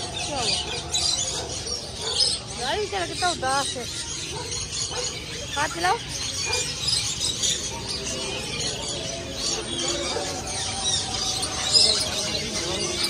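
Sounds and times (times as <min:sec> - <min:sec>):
people talking faintly: 0:00.0 - 0:13.0
small birds chirping and squawking: 0:00.0 - 0:13.0.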